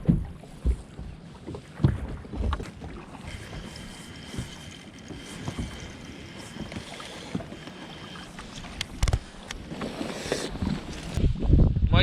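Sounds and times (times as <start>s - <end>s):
wind rumbling on microphone: 1.9s - 12.0s.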